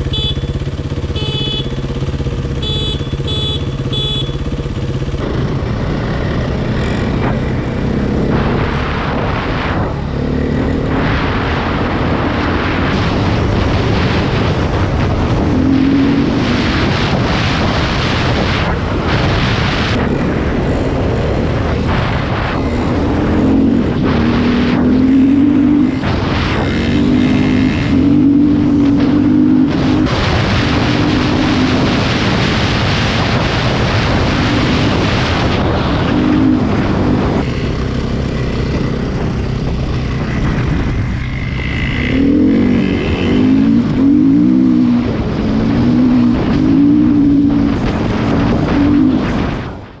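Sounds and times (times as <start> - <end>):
motorcycle engine revving: 0.0 - 50.0
loud rushing noise: 4.6 - 50.0.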